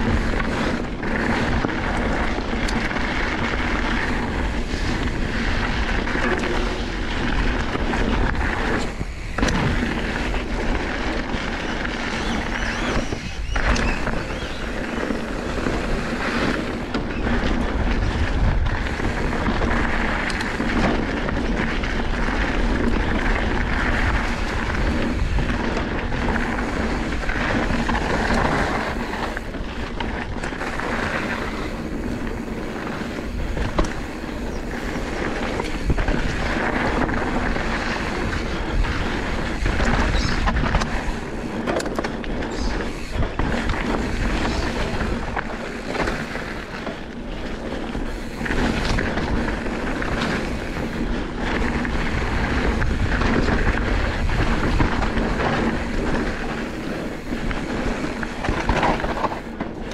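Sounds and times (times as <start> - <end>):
bike knocking over bumps: 0.0 - 59.9
bike tyres rolling on gravel: 0.0 - 59.9
wind buffeting microphone: 0.0 - 59.9.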